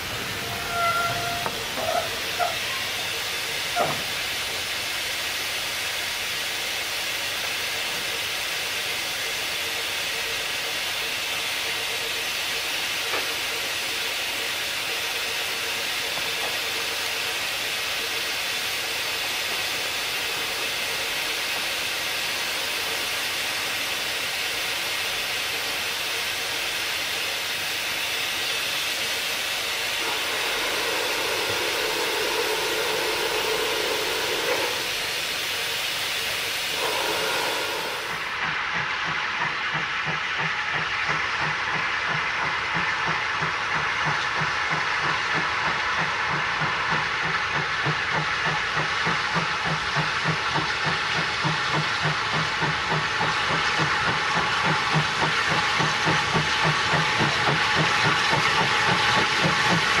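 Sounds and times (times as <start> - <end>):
steam hissing: 0.0 - 60.0.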